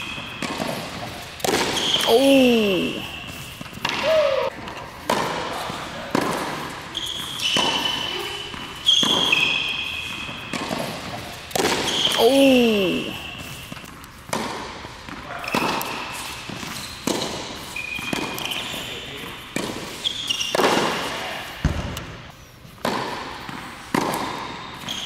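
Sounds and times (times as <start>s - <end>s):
tennis balls struck by racquets: 0.0s - 25.0s
tennis shoes squeaking on court: 0.0s - 25.0s.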